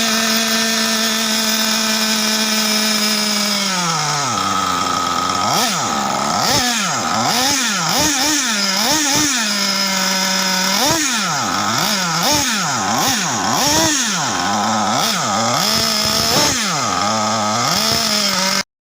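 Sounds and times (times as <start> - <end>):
rc car engine revving: 0.0 - 18.6.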